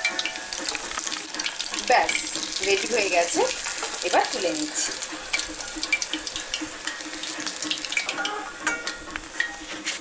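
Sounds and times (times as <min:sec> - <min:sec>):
hot oil sizzling and crackling: 0:00.0 - 0:10.0.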